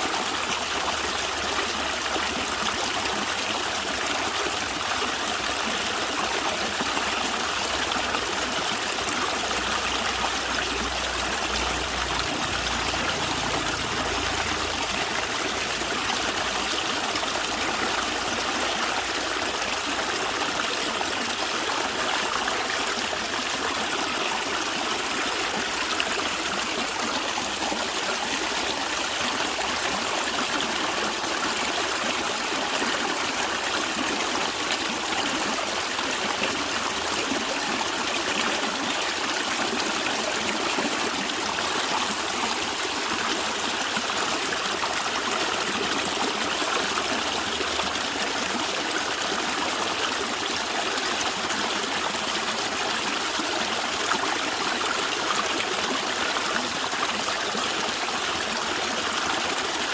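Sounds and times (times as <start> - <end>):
stream of water trickling: 0.0 - 59.9.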